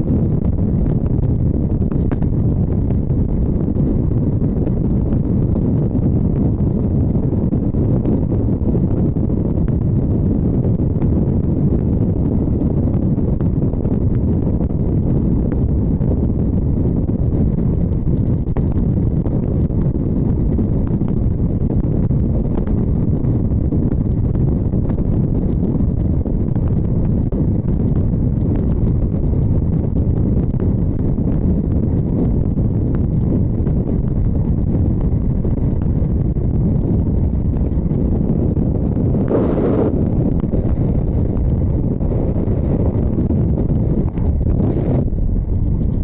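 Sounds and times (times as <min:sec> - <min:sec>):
wind roaring over microphone: 0:00.0 - 0:46.0.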